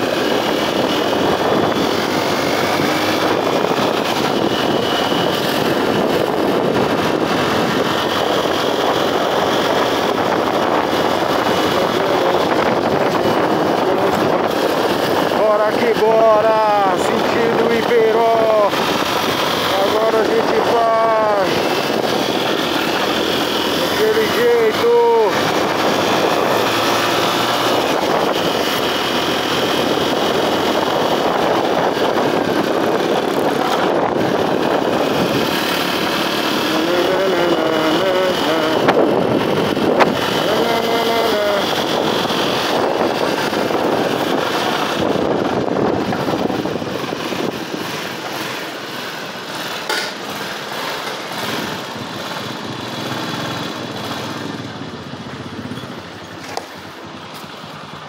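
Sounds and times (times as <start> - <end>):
motorcycle engine riding: 0.0 - 58.0
wind rushing over microphone: 0.0 - 58.0.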